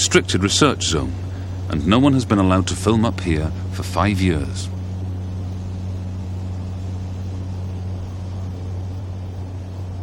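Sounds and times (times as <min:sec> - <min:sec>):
propeller aircraft engines droning: 0:00.0 - 0:10.0
rushing noise: 0:00.0 - 0:10.0.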